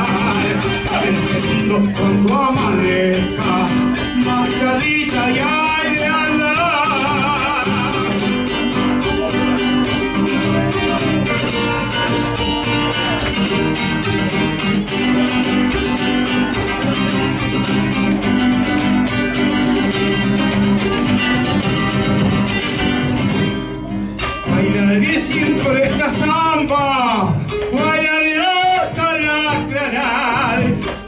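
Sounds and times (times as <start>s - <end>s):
acoustic guitars strumming: 0.0s - 31.0s.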